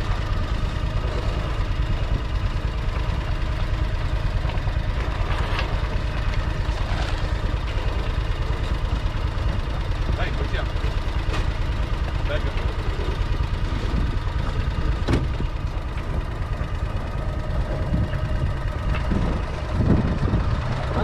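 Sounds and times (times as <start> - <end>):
utility vehicle engine idling: 0.0 - 21.0.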